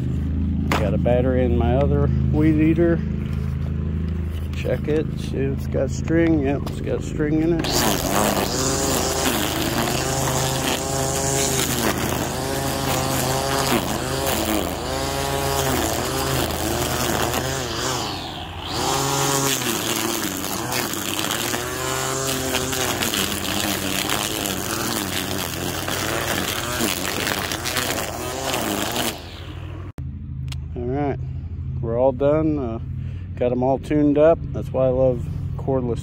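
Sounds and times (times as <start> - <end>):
string trimmer motor whine: 0.0 - 31.8.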